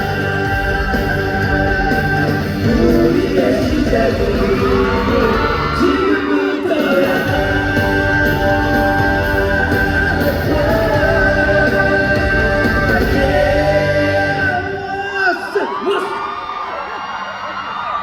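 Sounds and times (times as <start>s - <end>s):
live pop-rock song: 0.0s - 16.7s.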